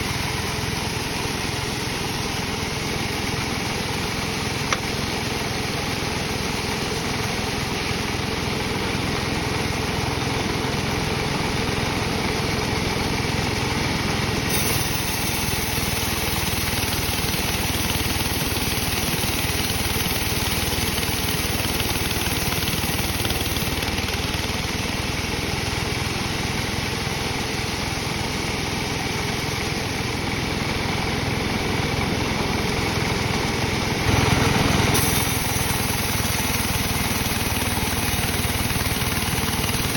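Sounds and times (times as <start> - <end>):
engine-driven sawmill running: 0.0 - 39.9.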